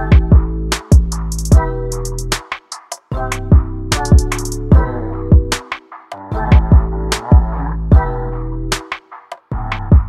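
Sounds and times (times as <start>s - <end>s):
electronic hip-hop music: 0.0s - 10.0s.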